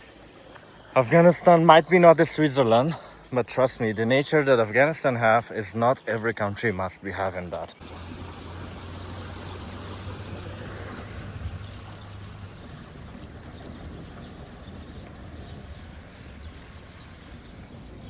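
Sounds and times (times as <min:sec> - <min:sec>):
rushing outdoor noise: 0:00.0 - 0:18.0.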